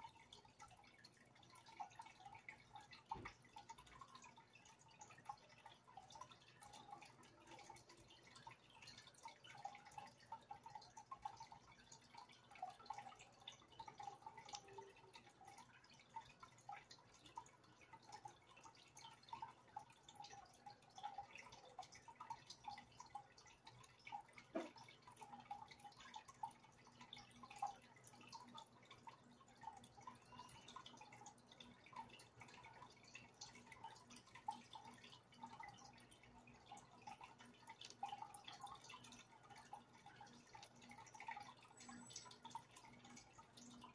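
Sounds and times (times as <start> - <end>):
aquarium drips and bubble pops: 0.0 - 43.9.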